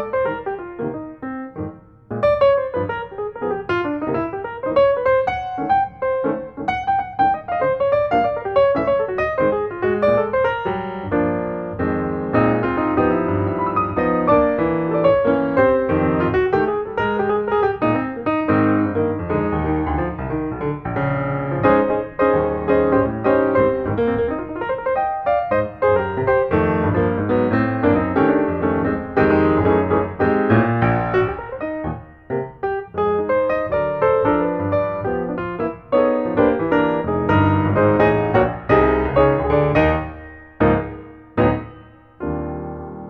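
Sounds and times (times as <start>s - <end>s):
piano music: 0.0s - 43.0s.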